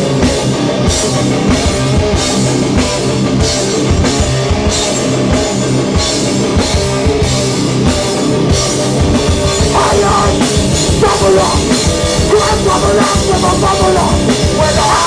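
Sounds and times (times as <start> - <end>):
band playing live: 0.0 - 15.0.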